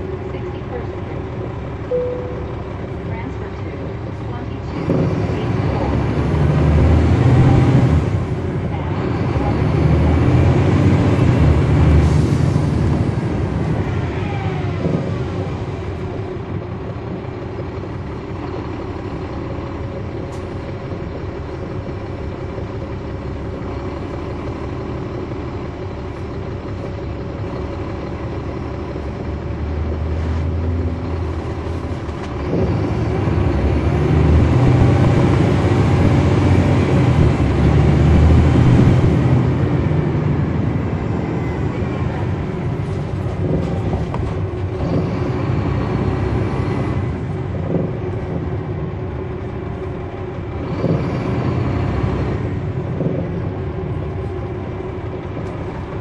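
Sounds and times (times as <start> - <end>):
bus diesel engine: 0.0 - 56.0
engine whine: 0.0 - 56.0.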